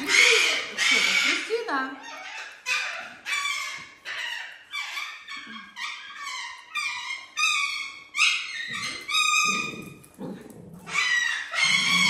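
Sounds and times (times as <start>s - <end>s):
dogs squealing: 0.0s - 10.2s, 10.8s - 12.0s.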